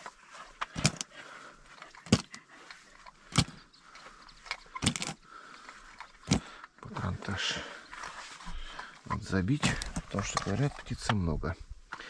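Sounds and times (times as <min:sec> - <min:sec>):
shotgun cartridges clicking and knocking: 0:00.0 - 0:11.3.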